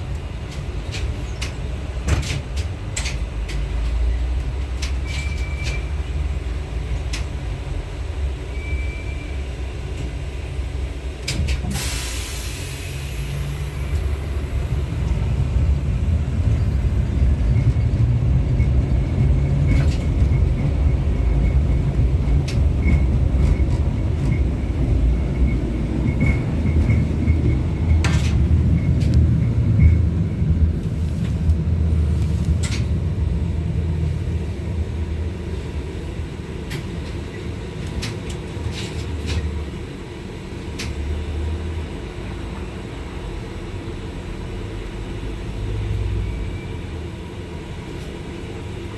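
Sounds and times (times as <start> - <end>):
tram motors and wheels rumbling: 0.0 - 48.9.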